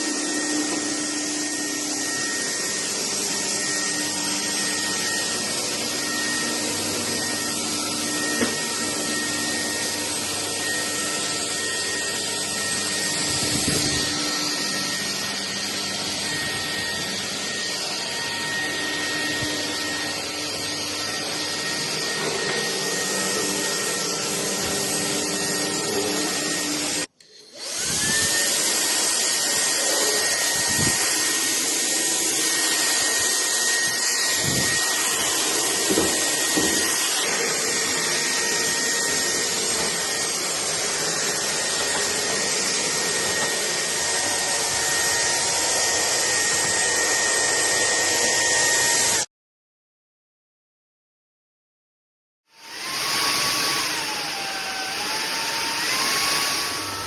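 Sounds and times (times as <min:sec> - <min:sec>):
stick vacuum motor whine: 0:00.0 - 0:49.3, 0:52.5 - 0:57.0.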